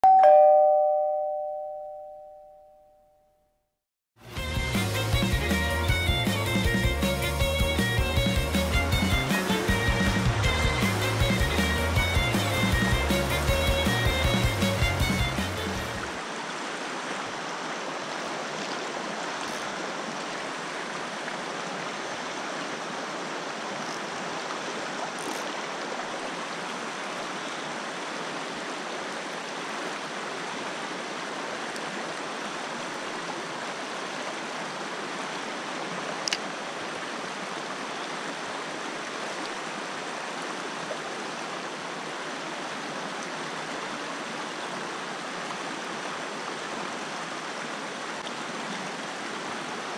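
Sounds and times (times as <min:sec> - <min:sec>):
river rushing over stones: 0:08.7 - 0:49.9.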